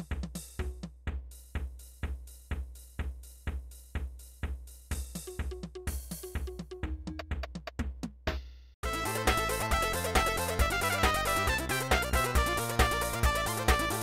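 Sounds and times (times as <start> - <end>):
drum-machine beat: 0.0 - 14.0.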